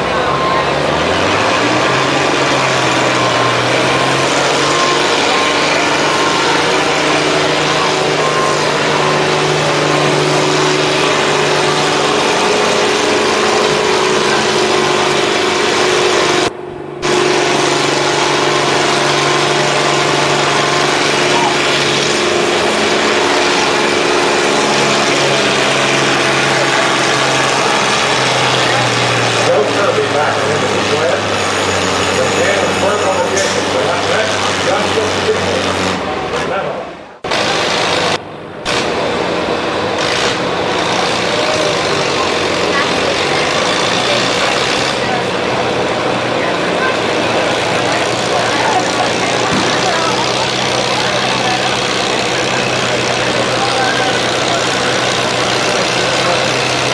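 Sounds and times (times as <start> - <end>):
tractor engine at high revs: 0.0 - 56.9.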